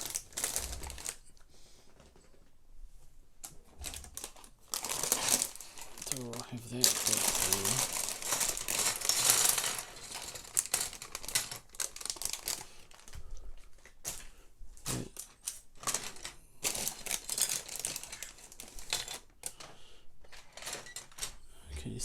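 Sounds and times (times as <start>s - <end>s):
plastic crinkling: 0.0s - 1.5s, 3.4s - 21.4s.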